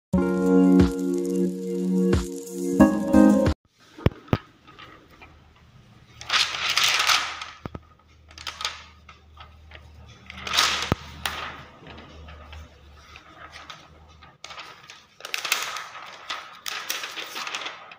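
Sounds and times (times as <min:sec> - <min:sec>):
plastic film crackly rustling: 0:00.2 - 0:02.6, 0:03.7 - 0:17.9.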